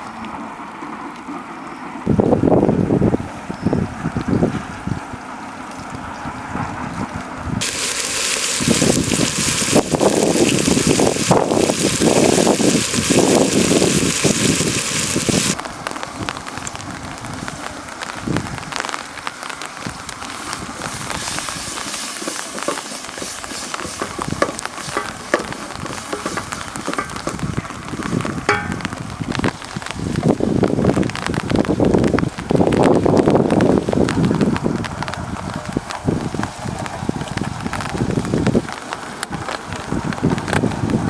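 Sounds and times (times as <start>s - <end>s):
campfire crackling: 7.6s - 41.0s
rain falling: 7.6s - 41.0s.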